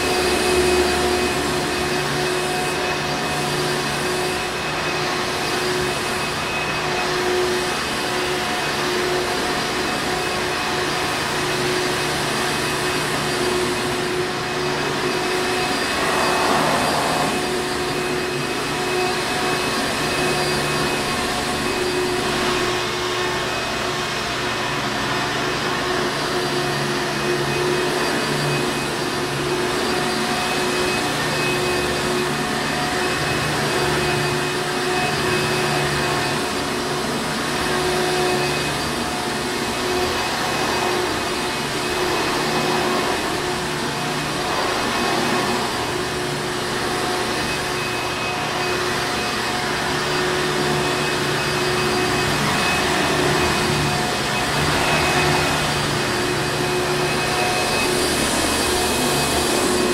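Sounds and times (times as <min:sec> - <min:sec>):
upright vacuum cleaner running: 0:00.0 - 0:59.9.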